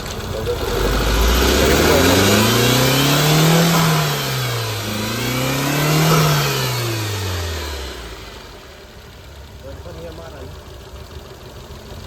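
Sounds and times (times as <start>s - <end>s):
petrol engine misfiring and hunting: 0.0s - 12.0s.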